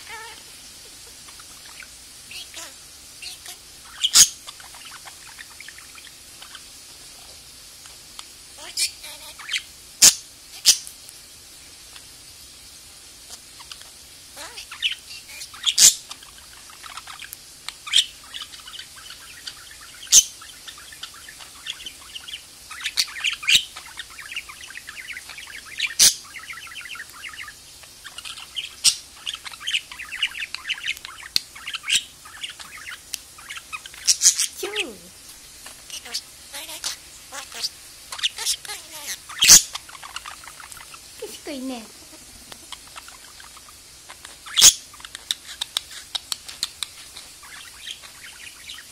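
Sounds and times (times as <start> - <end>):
budgerigar chattering: 0.0 - 6.2, 8.6 - 10.8, 14.4 - 17.1, 17.9 - 35.0, 35.8 - 48.9.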